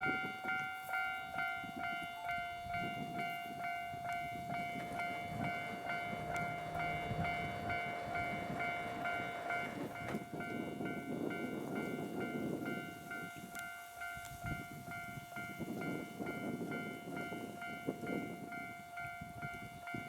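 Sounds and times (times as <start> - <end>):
level crossing warning bell: 0.0 - 20.0
low rumbling train: 0.0 - 20.0.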